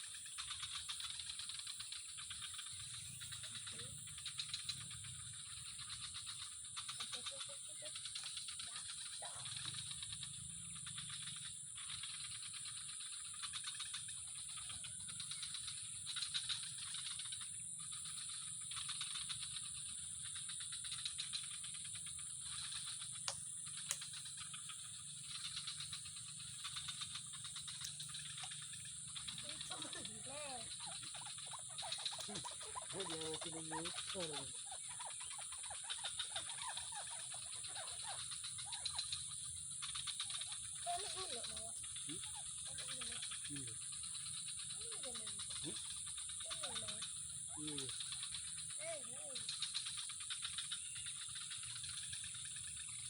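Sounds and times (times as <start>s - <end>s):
rapid rattling trills: 0.0s - 53.0s.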